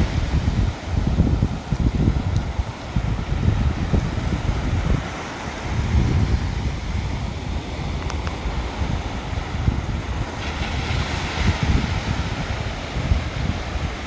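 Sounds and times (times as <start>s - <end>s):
ocean surf washing ashore: 0.0s - 14.0s
wind rumbling on microphone: 0.0s - 14.0s.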